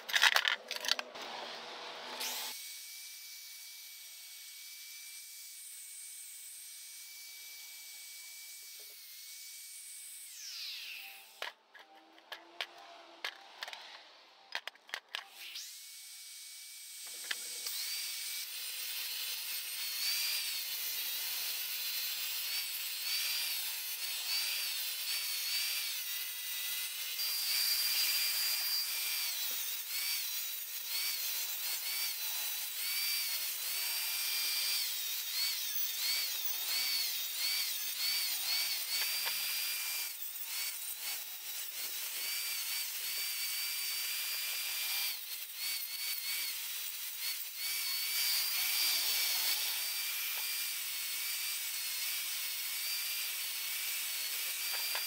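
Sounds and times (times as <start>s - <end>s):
angle grinder on metal: 0.0s - 55.0s.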